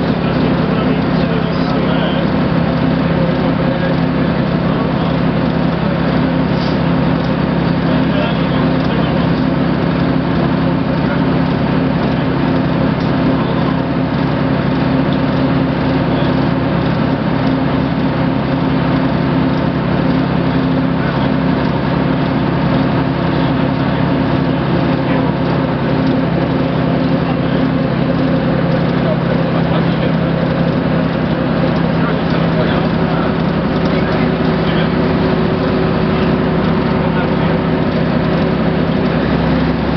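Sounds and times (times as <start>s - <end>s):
bus diesel engine cruising: 0.0s - 39.9s
road noise: 0.0s - 39.9s.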